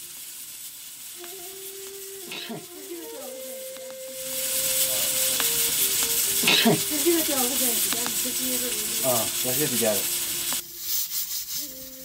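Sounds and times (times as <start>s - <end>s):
pressure cooker hissing steam: 0.0s - 12.0s.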